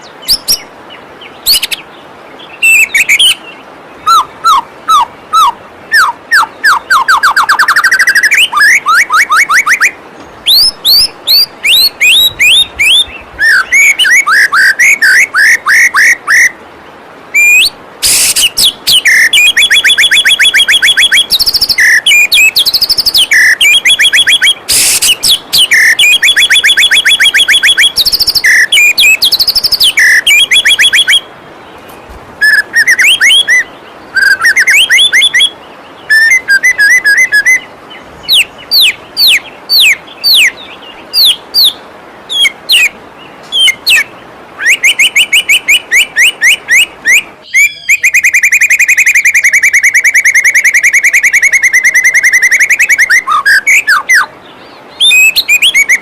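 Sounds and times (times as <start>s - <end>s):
bird singing whistled trills: 0.0s - 16.6s, 17.3s - 31.3s, 32.4s - 42.9s, 43.5s - 56.0s
waterfall water flowing: 0.0s - 48.1s.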